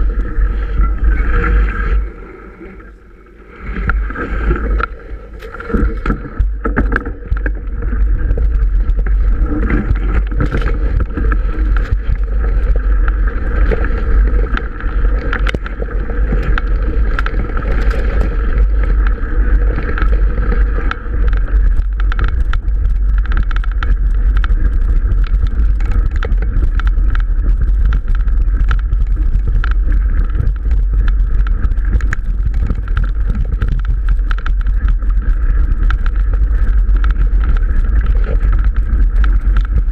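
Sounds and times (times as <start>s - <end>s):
bike clicks and rattles: 0.0s - 2.1s, 4.6s - 39.9s
wind and vibration rumble: 0.0s - 39.9s.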